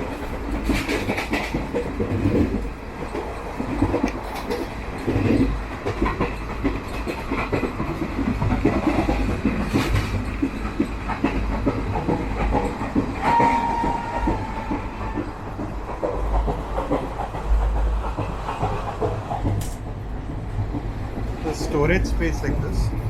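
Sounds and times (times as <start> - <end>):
train running rumble: 0.0 - 23.0
wheels clickety-clack on rails: 0.0 - 23.0.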